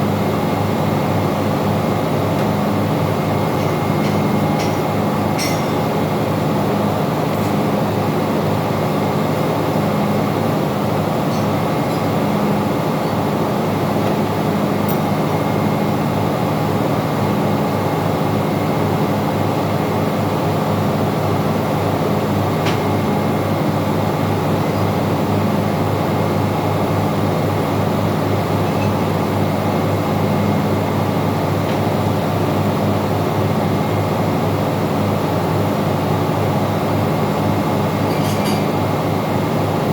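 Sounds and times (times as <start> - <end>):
engine room machinery din: 0.0 - 39.9.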